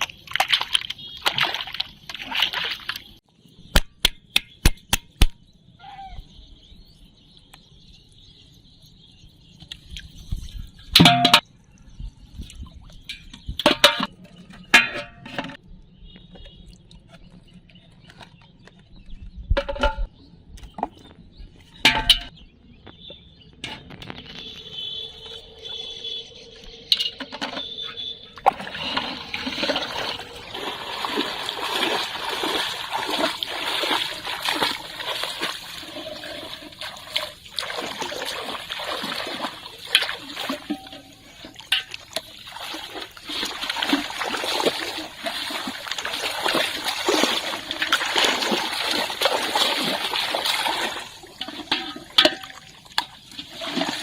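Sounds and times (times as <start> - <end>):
water splashing and sloshing: 0.0 - 3.2, 9.4 - 54.0.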